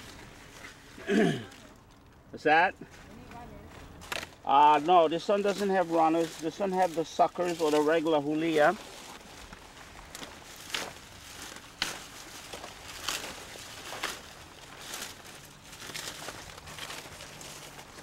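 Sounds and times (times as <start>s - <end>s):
hands rustling dry leaves: 0.0s - 2.3s, 2.9s - 18.0s.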